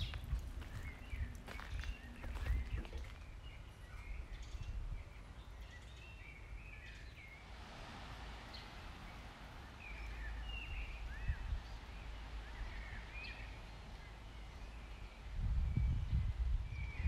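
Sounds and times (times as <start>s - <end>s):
small birds chirping: 0.0s - 7.6s, 8.4s - 17.0s.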